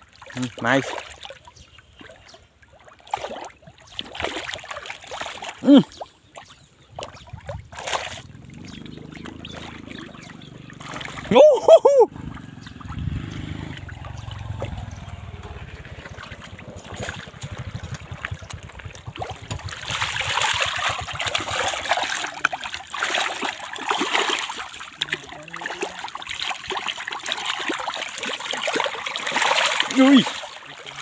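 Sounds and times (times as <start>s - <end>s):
fish splashing in water: 0.0s - 31.0s.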